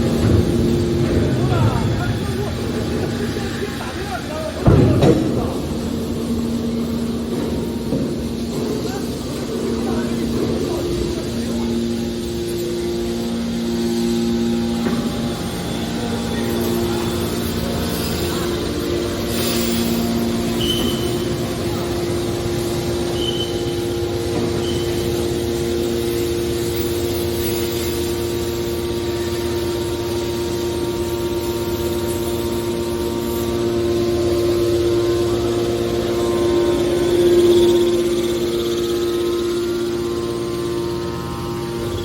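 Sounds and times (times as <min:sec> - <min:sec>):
baler motor humming: 0:00.0 - 0:42.0.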